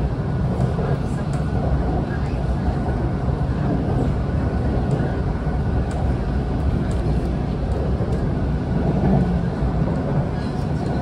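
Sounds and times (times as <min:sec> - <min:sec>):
train rumbling at speed: 0:00.0 - 0:11.0.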